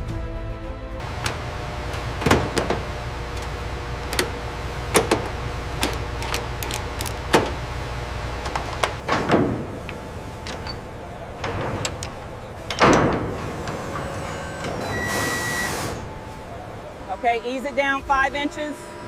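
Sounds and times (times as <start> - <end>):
machinery hum: 1.0 - 19.0.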